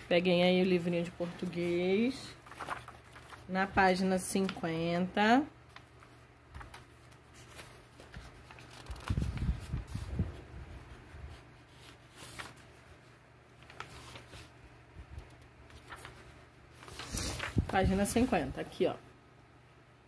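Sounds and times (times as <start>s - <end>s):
paper pages rustling: 0.1s - 18.7s.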